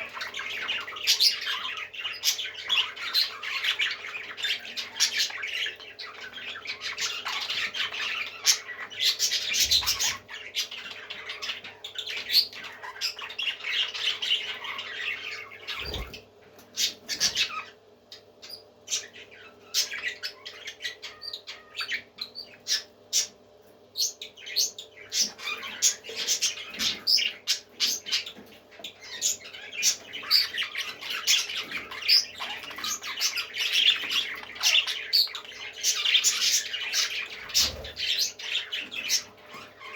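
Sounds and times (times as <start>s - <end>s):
parrots squawking and chattering: 0.0s - 39.9s.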